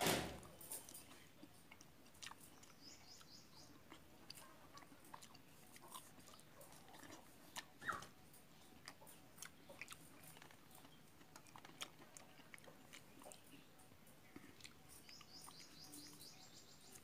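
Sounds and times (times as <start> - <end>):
soft chewing of fruit: 0.7 - 17.0.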